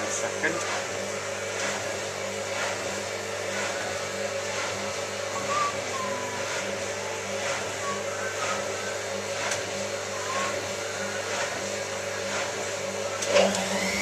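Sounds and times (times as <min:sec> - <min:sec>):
washing machine motor humming: 0:00.0 - 0:14.0.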